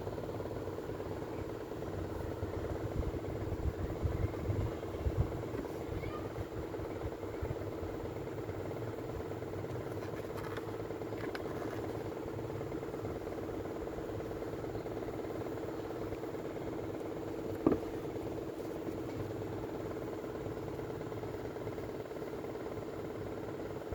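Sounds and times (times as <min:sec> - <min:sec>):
small motor humming: 0:00.0 - 0:23.9.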